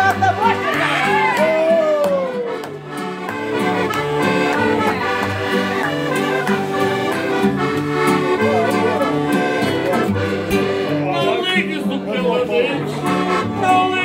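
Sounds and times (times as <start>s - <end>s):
button accordion playing: 0.0s - 14.0s
strummed guitar: 0.0s - 14.0s.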